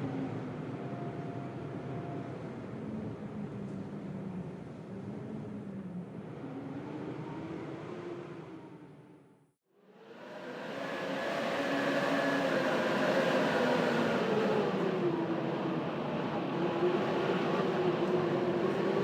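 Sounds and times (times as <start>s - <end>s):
blizzard wind howling: 0.0s - 9.3s, 9.9s - 19.0s.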